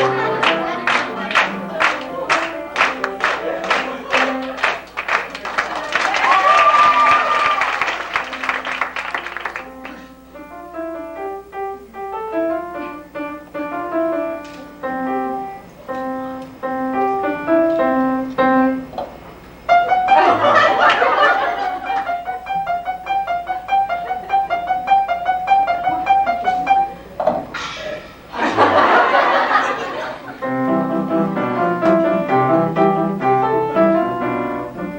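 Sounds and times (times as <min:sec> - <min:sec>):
piano melody: 0:00.0 - 0:05.2, 0:07.0 - 0:27.2, 0:28.4 - 0:34.9.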